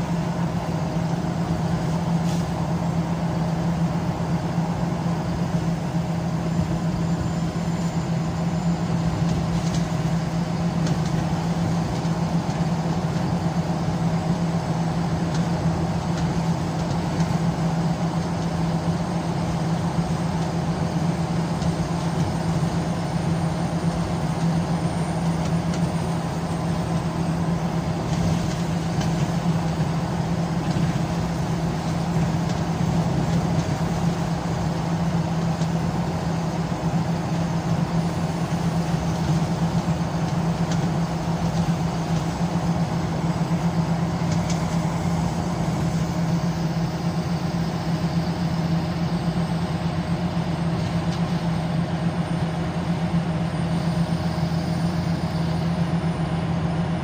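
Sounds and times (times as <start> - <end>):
bus diesel engine droning: 0.0 - 57.0
road noise: 0.0 - 57.0.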